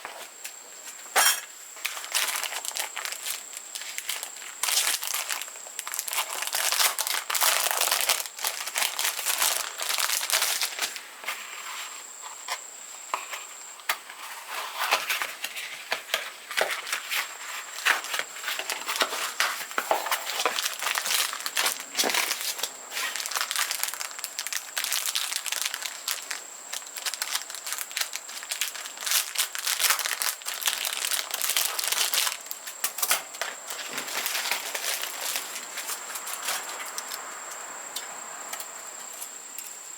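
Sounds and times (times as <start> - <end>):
packaging crinkling: 1.2 - 11.4, 14.2 - 37.2.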